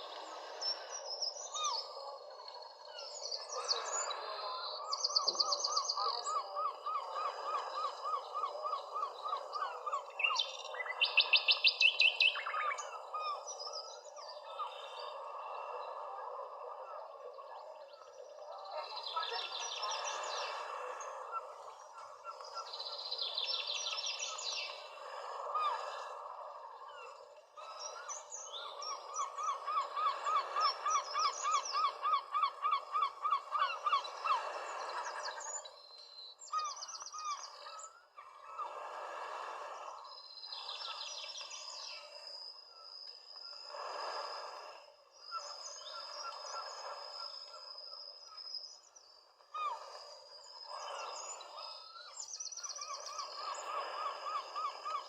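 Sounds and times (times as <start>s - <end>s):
birds singing: 0.0s - 38.7s, 39.8s - 55.0s.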